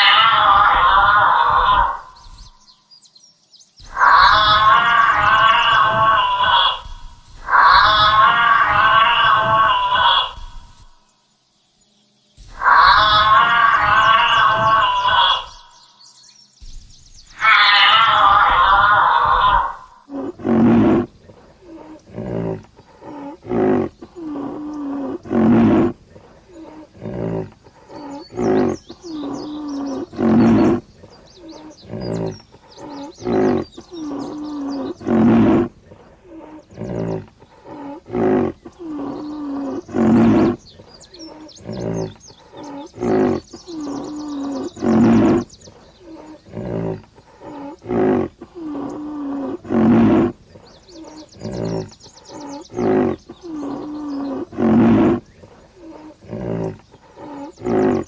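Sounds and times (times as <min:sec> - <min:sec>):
large animal roaring: 0:00.0 - 0:02.2, 0:03.9 - 0:10.9, 0:12.5 - 0:15.8, 0:17.4 - 0:58.0.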